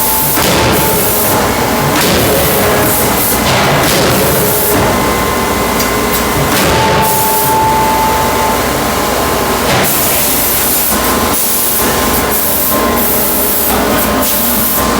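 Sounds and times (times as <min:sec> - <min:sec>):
loud hydraulic hissing: 0:00.0 - 0:14.9
steady machine hum: 0:00.0 - 0:14.9.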